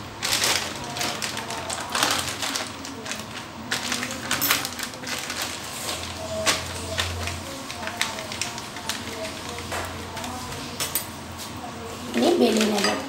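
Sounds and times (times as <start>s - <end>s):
plastic bag crinkling: 0.0s - 10.8s, 12.1s - 13.0s.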